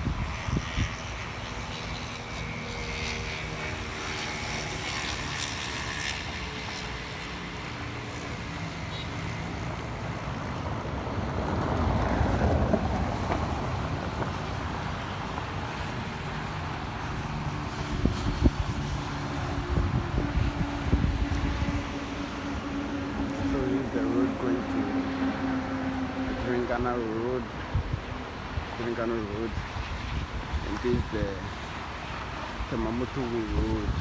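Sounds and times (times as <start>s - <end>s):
aircraft engine drone: 0.0s - 34.0s.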